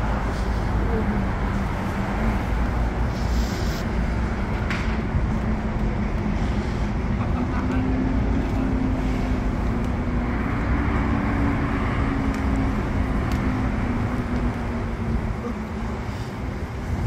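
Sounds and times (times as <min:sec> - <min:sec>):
low engine hum: 0:00.0 - 0:17.0
tyres on wet road: 0:00.0 - 0:17.0.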